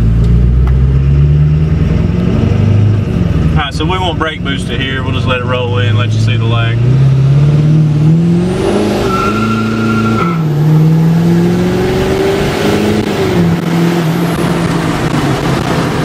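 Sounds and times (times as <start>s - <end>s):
diesel truck engine at full throttle: 0.0s - 16.0s
transmission upshifts: 0.0s - 16.0s.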